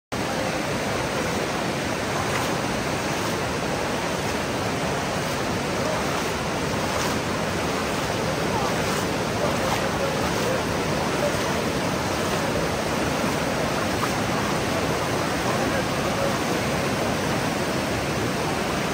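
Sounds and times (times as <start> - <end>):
people wading through water: 0.2 - 18.9
river rushing over stones: 0.2 - 18.9.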